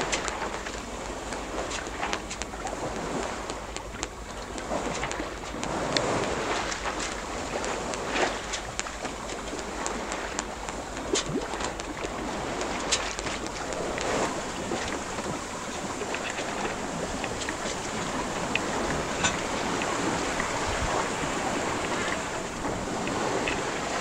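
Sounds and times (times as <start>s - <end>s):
small ticks and slaps: 0.0s - 24.0s
water along hull: 0.0s - 24.0s
wind on microphone: 0.0s - 24.0s.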